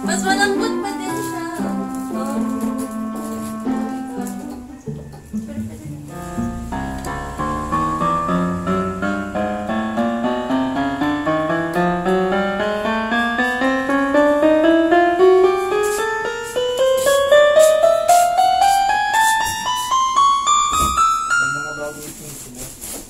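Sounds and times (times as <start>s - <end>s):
electronic keyboard piano notes: 0.0s - 22.3s.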